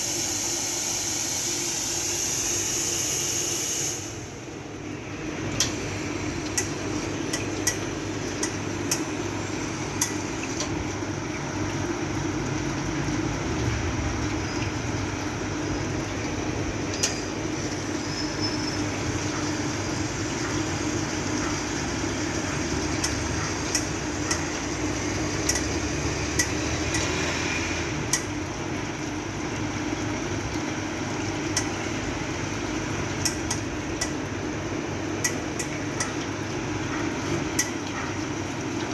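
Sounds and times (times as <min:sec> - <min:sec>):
espresso machine humming: 0:00.0 - 0:34.7.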